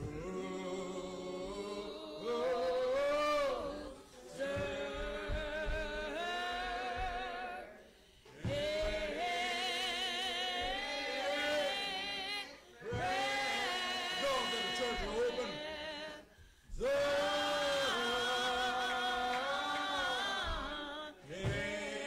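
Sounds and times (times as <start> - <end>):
slow hymn singing: 0.0 - 22.0.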